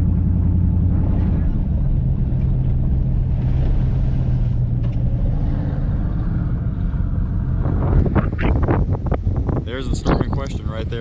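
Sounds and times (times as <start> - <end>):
truck road and engine rumble: 0.0 - 11.0.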